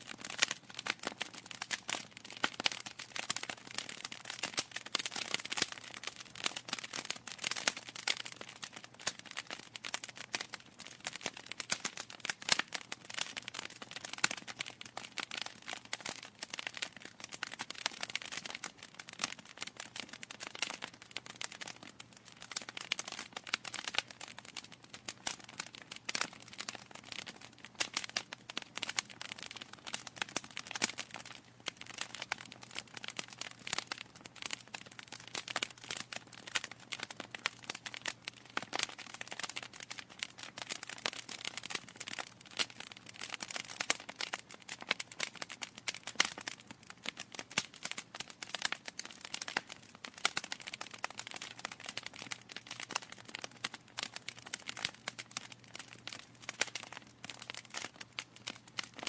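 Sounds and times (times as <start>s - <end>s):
wood fire crackling: 0.0s - 59.0s
burning logs popping: 0.1s - 59.0s.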